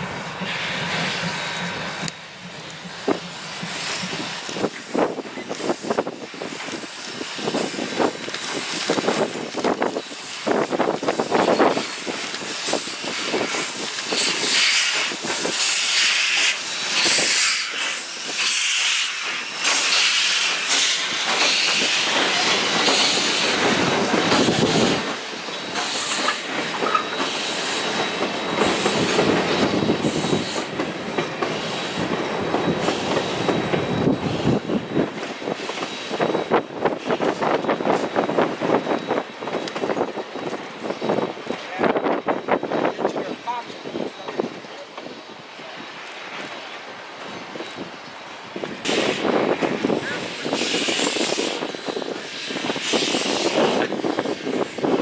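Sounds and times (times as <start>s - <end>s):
steam locomotive hissing: 0.0s - 55.0s
train clattering clicks: 0.4s - 55.0s.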